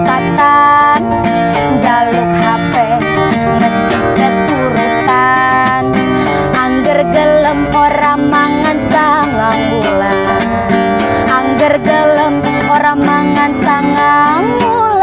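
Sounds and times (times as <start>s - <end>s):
plucked guitar: 0.0s - 15.0s
sliding melody line: 0.0s - 15.0s.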